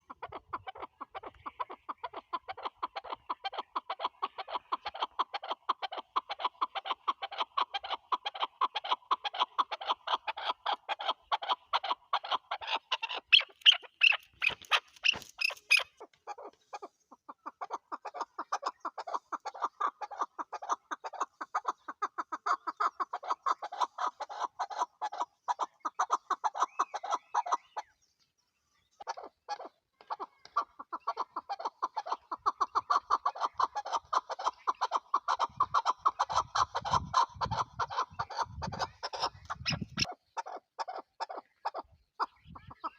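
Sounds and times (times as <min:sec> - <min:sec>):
partridge clucking call: 0:00.0 - 0:27.9, 0:29.0 - 0:42.9.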